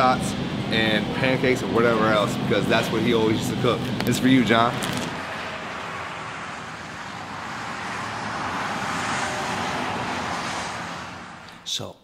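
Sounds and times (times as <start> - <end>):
car road noise: 0.0 - 11.7.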